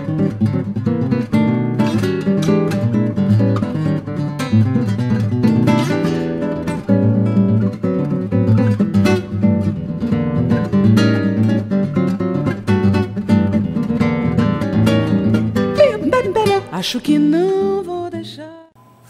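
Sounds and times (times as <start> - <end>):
acoustic guitar strumming: 0.0 - 18.4.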